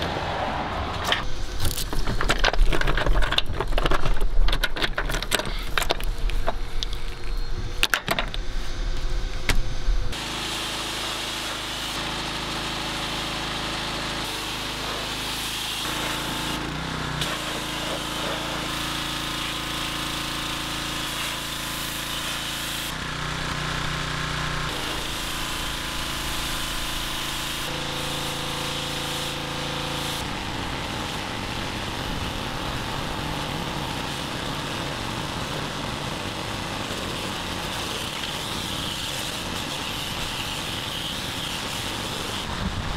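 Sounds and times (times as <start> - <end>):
pressure washer humming: 5.1 - 42.9.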